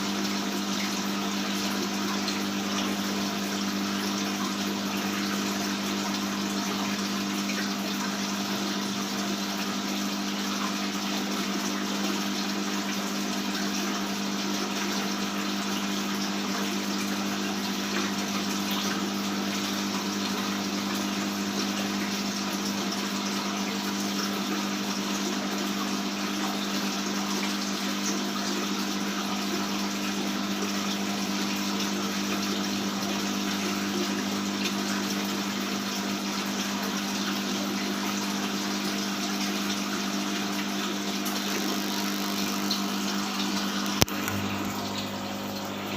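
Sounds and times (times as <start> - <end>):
aquarium pump hum: 0.0 - 45.9
water splashing and flowing: 0.0 - 45.9.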